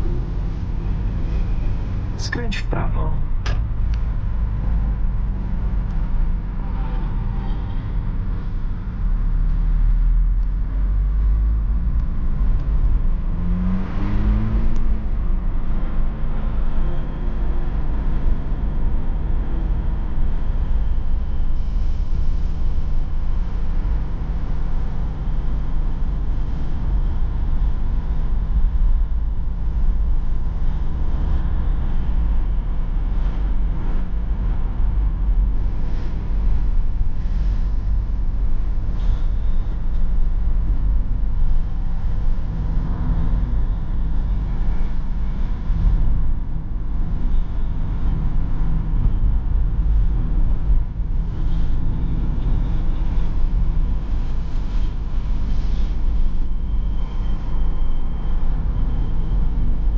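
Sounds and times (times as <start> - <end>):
car interior engine and road rumble: 0.0 - 59.9.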